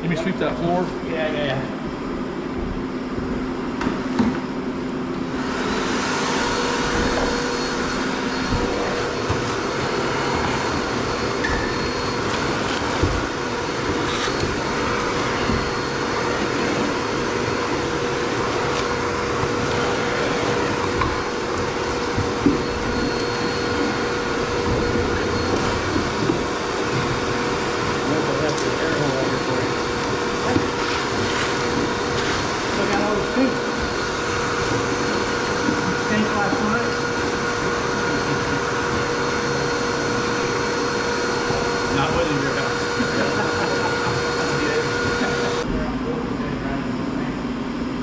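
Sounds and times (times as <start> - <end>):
fan whirring: 0.0 - 48.0.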